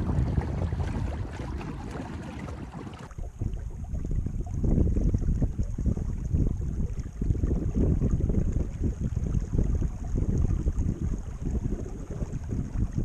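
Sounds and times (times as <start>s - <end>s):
water washing along hull: 0.0s - 13.0s
wind buffeting microphone: 0.0s - 13.0s.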